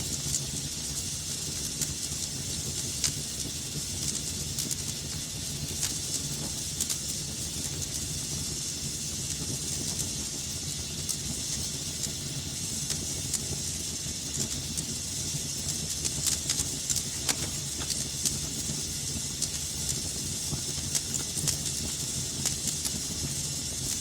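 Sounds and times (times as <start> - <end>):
fire popping: 0.0 - 24.0
fire rumble and hiss: 0.0 - 24.0.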